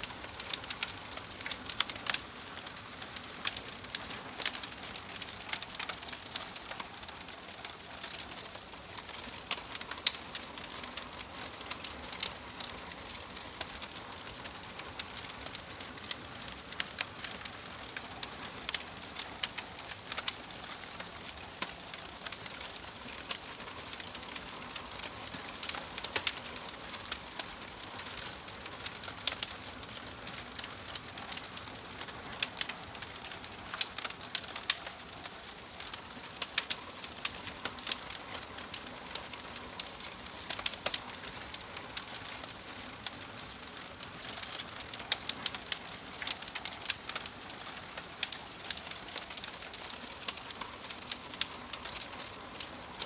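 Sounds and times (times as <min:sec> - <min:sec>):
wood fire popping and snapping: 0:00.0 - 0:53.0.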